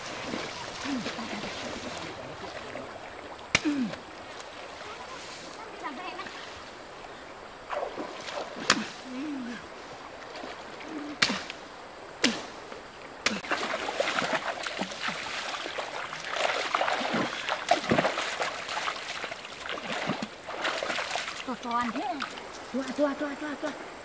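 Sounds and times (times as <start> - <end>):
people wading through water: 0.0 - 24.0.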